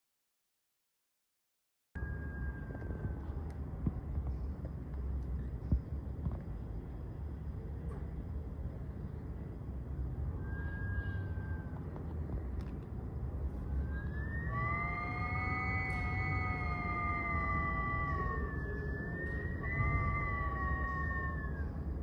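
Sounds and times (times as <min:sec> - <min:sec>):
low wind rumble: 0:02.0 - 0:22.0.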